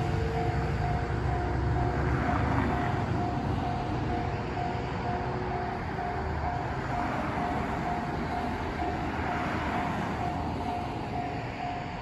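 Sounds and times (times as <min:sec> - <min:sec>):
level crossing warning bell: 0:00.0 - 0:12.0.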